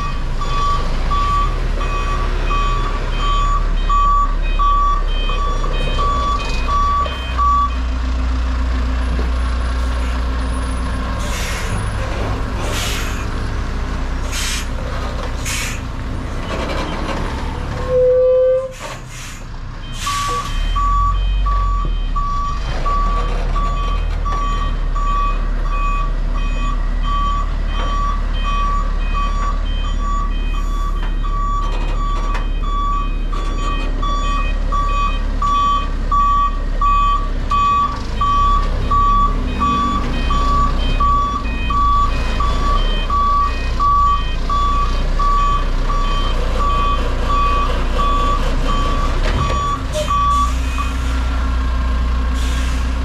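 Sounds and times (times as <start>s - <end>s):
truck reversing alarm beeping: 0.0s - 12.0s, 15.4s - 53.0s
diesel engine rumble: 0.0s - 53.0s.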